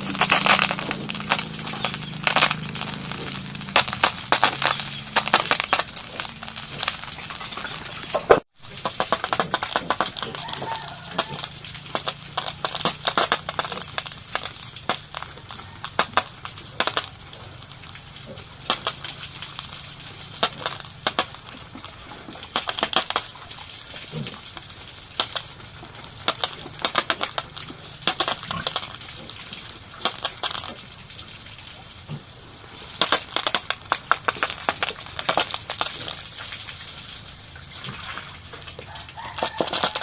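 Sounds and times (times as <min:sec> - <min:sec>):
pigs crunching feed: 0:00.0 - 0:40.0.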